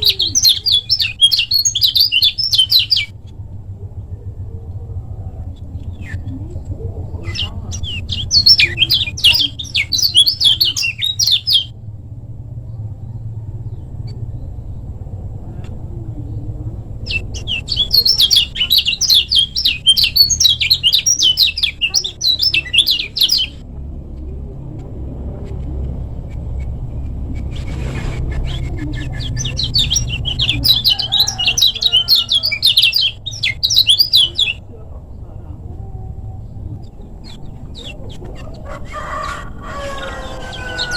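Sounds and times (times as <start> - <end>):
bird chattering song: 0.0 - 3.3, 4.0 - 11.8, 12.7 - 40.9
steady low hum: 0.0 - 40.9.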